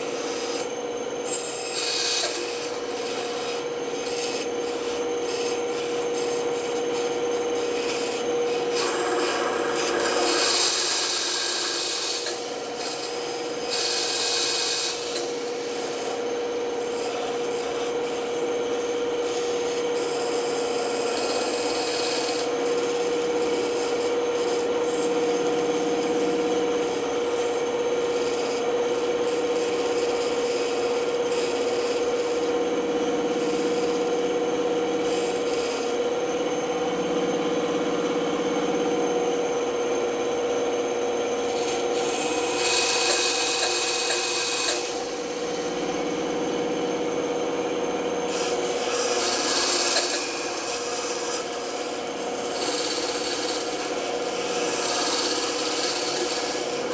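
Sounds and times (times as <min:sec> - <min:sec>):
saw blade cutting wood: 0:00.0 - 0:36.1, 0:41.4 - 0:45.8, 0:48.2 - 0:56.9
band saw humming: 0:00.0 - 0:56.9.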